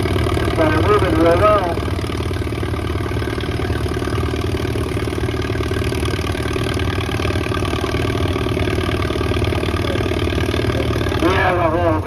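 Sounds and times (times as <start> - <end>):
tractor engine working under load: 0.0 - 12.0.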